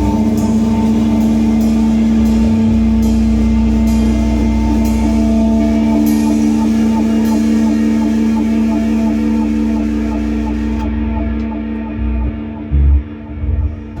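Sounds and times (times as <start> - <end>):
cymbal strikes: 0.0 - 12.5.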